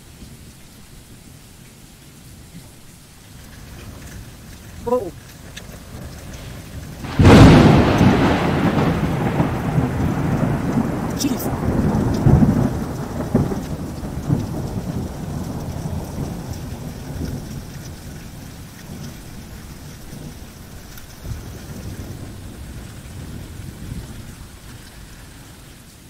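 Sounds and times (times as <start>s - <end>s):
steady rain: 0.0s - 26.0s
rolling thunder rumble: 3.3s - 26.0s
thunderclap: 3.4s - 25.6s.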